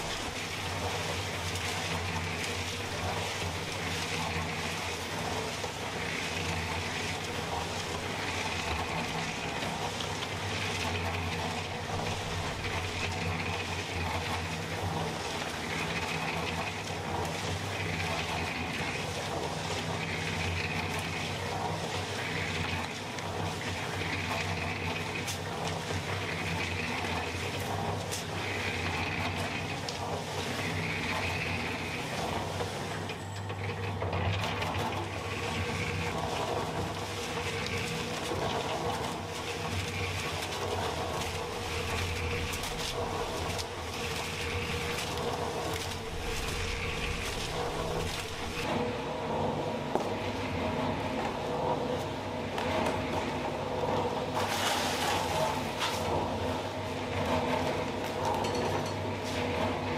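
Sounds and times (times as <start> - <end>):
concrete mixer motor hum: 0.0 - 59.9
mix tumbling in turning drum: 0.0 - 59.9.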